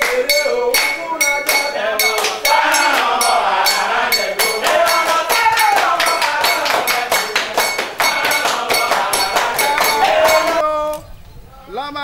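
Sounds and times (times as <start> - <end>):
struck metal bell ringing: 0.0 - 10.6
voices singing a chant: 0.0 - 11.9.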